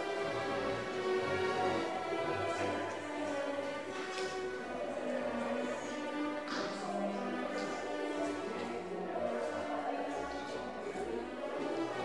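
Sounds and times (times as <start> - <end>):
slow orchestral music: 0.0 - 12.0.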